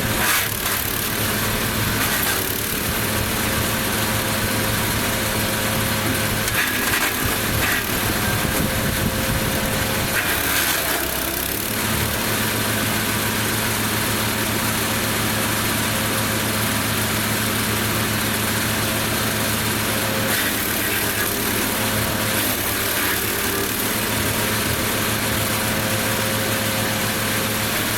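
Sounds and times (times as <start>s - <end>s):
branches going through cutter: 0.0s - 27.9s
wood chipper running: 0.0s - 27.9s.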